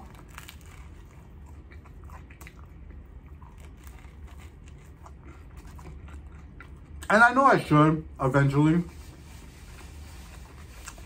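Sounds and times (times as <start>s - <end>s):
man chewing sandwich: 0.0s - 7.2s, 8.9s - 11.0s
low steady hum: 0.0s - 11.0s.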